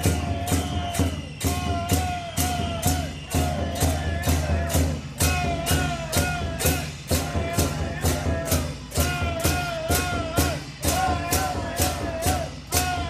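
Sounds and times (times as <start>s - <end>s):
large drum beating: 0.0s - 13.0s.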